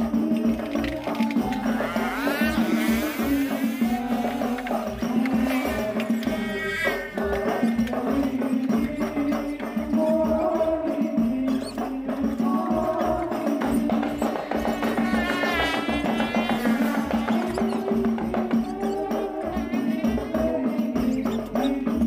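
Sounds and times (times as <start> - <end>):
hand percussion and jingles: 0.0 - 22.0.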